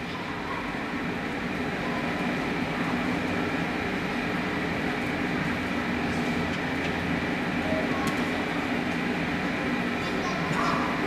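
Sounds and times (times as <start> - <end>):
air blowers humming: 0.0 - 11.0.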